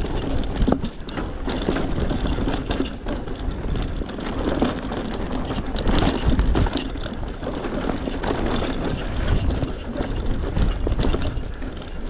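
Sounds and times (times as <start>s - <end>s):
bike chain and frame rattling: 0.0s - 12.0s
bike tyres on dirt: 0.0s - 12.0s
wind rumbling on microphone: 0.0s - 12.0s.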